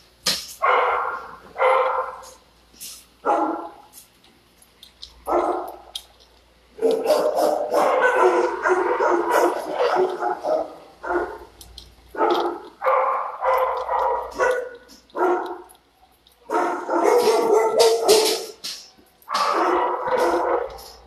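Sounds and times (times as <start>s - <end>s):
dogs barking: 0.6s - 2.5s, 3.2s - 3.9s, 5.2s - 6.1s, 6.7s - 21.0s.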